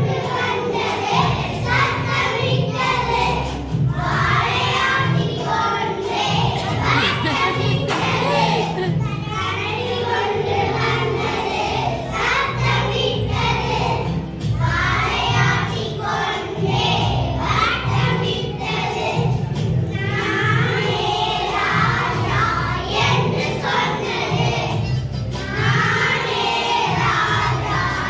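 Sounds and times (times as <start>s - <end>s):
group of voices singing: 0.0s - 28.0s.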